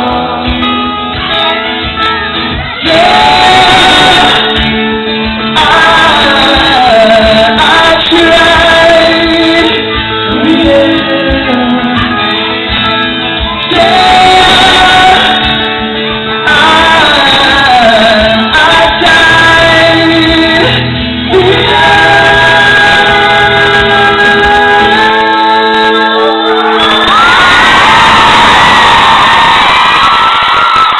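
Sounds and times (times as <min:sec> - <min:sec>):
person singing: 0:00.0 - 0:27.2
live pop-rock band: 0:00.0 - 0:30.9.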